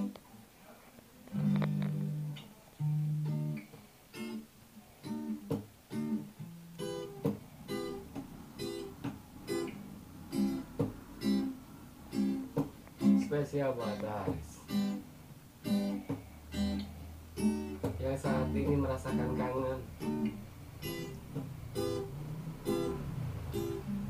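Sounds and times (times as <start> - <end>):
acoustic guitar strumming chords: 1.3 - 24.0.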